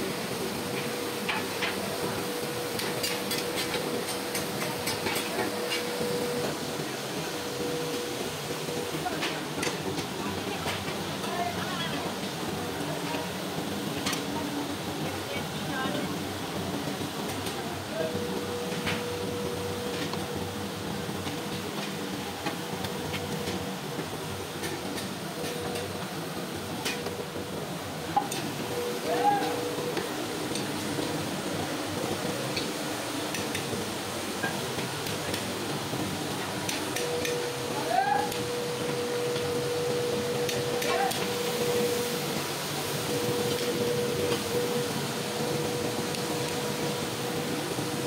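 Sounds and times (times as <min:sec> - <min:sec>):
steady workshop hum: 0:00.0 - 0:48.0.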